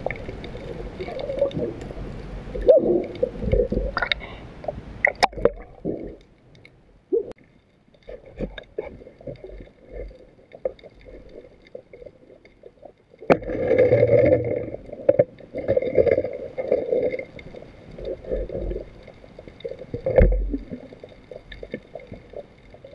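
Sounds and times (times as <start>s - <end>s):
muffled water sloshing: 0.0s - 22.9s.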